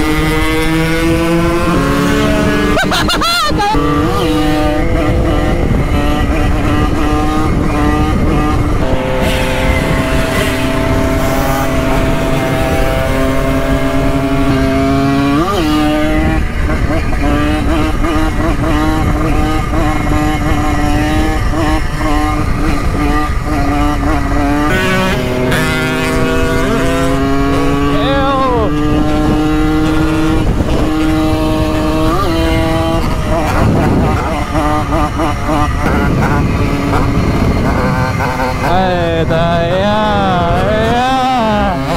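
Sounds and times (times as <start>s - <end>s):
moped engine running: 0.0s - 41.9s.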